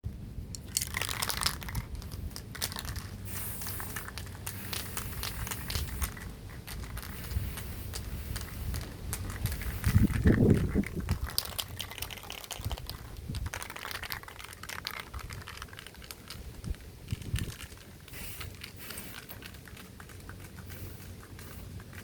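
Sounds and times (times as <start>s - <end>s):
crinkling handling noise: 0.4s - 22.0s.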